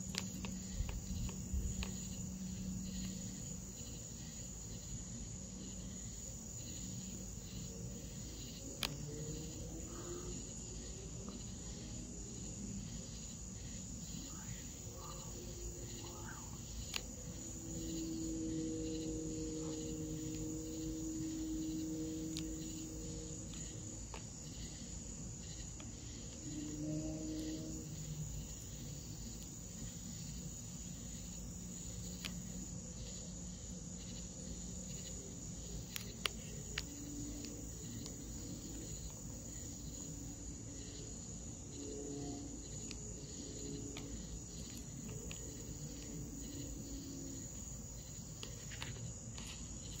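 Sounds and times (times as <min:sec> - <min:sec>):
faint low hums: 0:00.0 - 0:50.0
high-pitched insect trill: 0:00.0 - 0:50.0.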